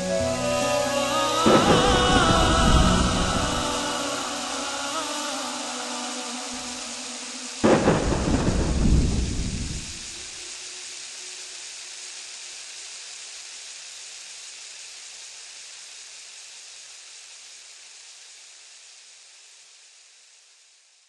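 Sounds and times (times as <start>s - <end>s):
heavy rain hiss: 0.0s - 21.0s.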